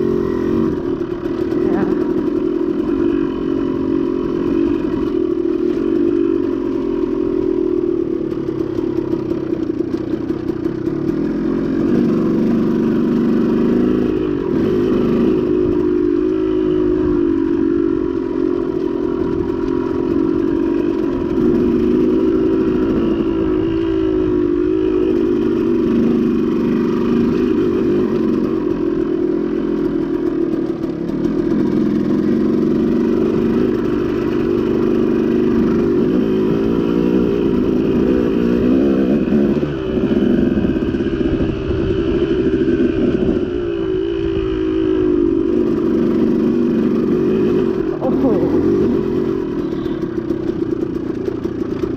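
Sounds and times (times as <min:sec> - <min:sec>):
bike rattling: 0:00.0 - 0:43.7, 0:44.3 - 0:51.9
dirt bike engine revving: 0:00.0 - 0:51.9.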